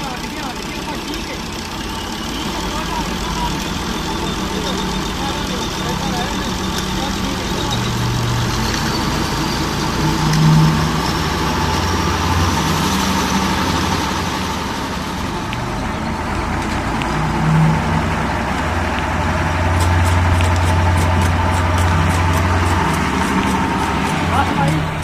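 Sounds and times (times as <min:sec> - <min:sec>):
diesel tractor engine running: 0:00.0 - 0:25.0.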